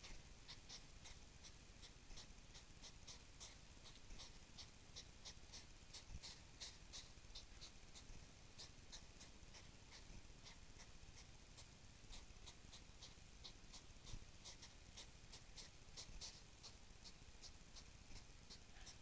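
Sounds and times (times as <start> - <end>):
hedgehog huffing: 0.0 - 17.5.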